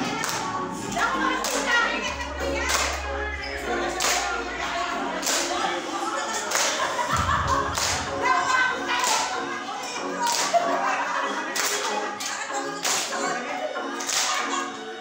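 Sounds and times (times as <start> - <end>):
dance music with steady beat: 0.0 - 15.0.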